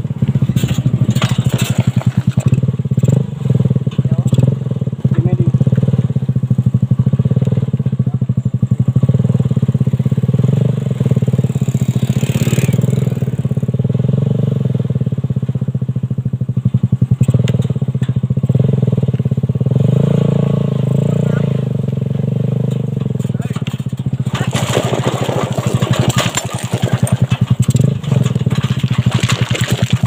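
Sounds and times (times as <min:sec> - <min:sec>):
motorcycle engine puttering: 0:00.0 - 0:14.0, 0:15.3 - 0:20.1, 0:20.8 - 0:30.0.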